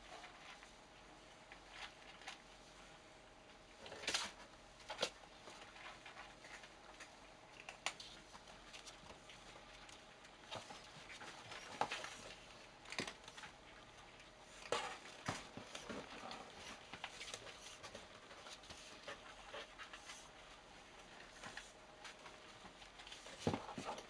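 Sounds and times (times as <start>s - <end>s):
paws pattering and scuffling: 4.0s - 24.0s.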